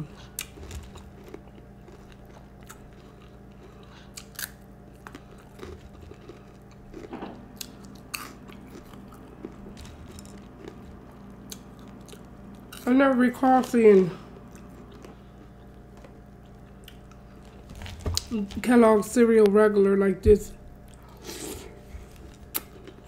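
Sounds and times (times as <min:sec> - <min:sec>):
person chewing crunchy cereal: 0:00.0 - 0:18.7, 0:20.8 - 0:23.0.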